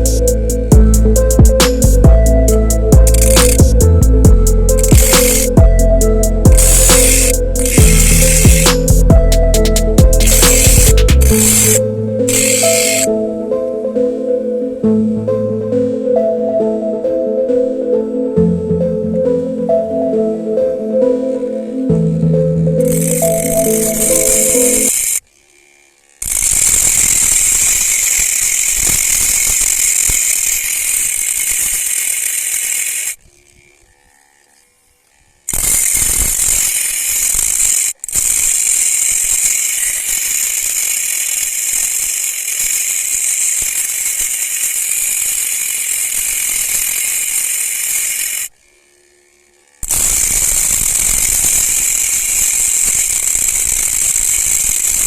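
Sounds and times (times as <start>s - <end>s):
angle grinder whining: 0.0s - 55.0s.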